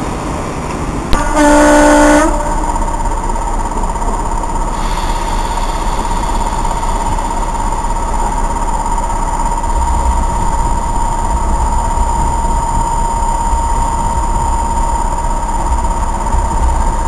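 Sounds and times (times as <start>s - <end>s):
locomotive engine whining: 1.1s - 17.0s.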